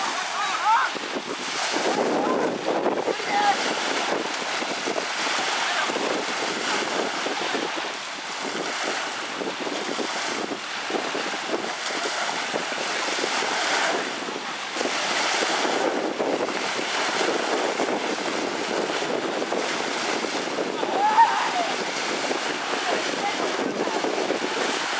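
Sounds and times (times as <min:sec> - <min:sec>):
lake waves splashing: 0:00.0 - 0:24.9
wind on microphone: 0:00.0 - 0:24.9.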